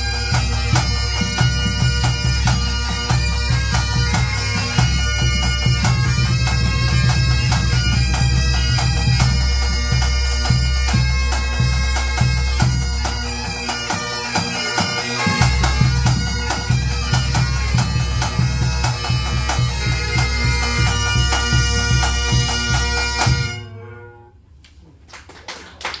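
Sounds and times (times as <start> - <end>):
tenor and bass drums: 0.0 - 23.6
bagpipe melody with drones: 0.0 - 24.4.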